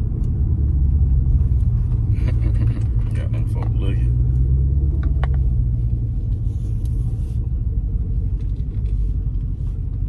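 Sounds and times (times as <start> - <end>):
car exhaust deep rumble: 0.0 - 10.0.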